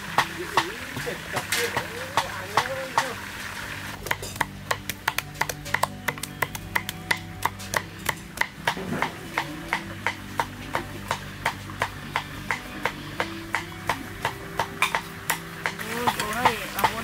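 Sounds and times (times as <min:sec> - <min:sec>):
low steady drone: 0:00.0 - 0:17.0.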